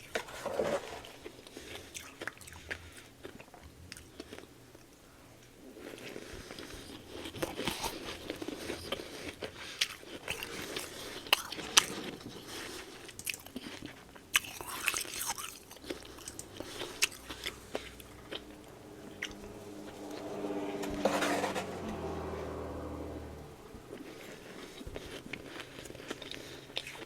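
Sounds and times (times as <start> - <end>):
chewing crunchy frost: 0.0 - 19.6, 23.9 - 27.0.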